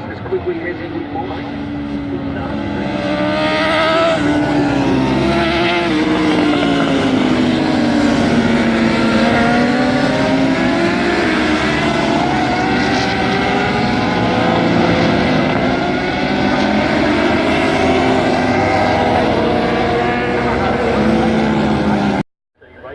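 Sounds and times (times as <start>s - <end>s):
racing motorcycle engines revving: 0.0s - 22.2s.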